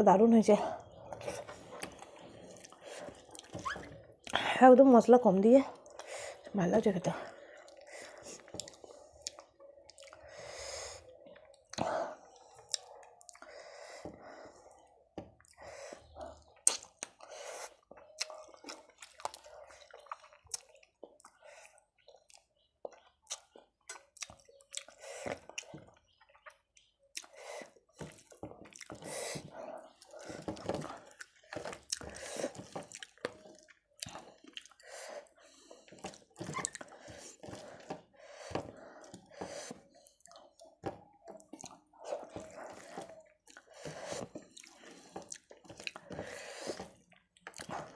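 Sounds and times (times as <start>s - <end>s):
wet chewing and lip smacking: 0.8s - 4.4s, 7.3s - 10.5s, 11.2s - 47.9s.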